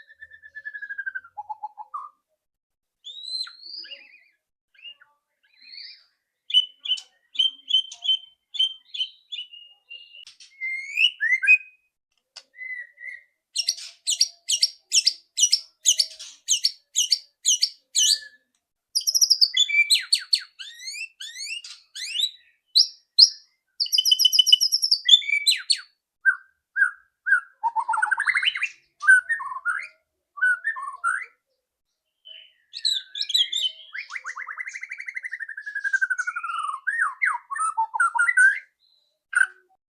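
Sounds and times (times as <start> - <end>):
bird whistling song: 0.0 - 2.2, 3.0 - 11.9, 12.5 - 31.4, 32.2 - 39.7.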